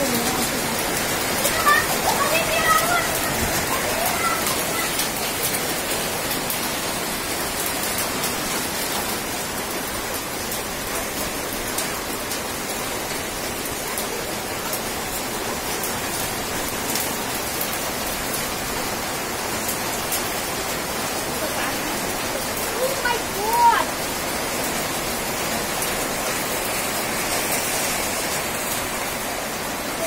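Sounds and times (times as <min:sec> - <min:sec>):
rain pouring: 0:00.0 - 0:30.0.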